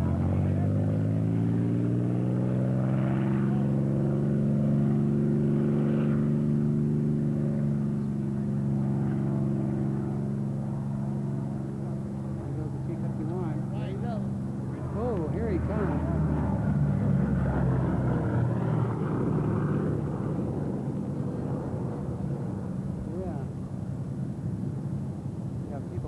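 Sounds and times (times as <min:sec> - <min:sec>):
propeller plane engine drone: 0:00.0 - 0:26.0.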